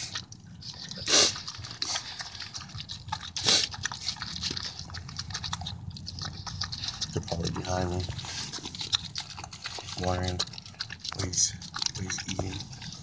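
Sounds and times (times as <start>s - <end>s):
dog chewing wet food: 0.0s - 13.0s.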